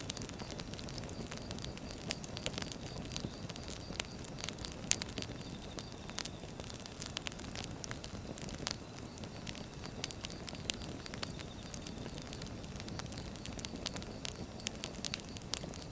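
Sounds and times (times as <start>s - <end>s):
low rustle of flames: 0.0s - 15.9s
wood fire crackling and snapping: 0.0s - 15.9s.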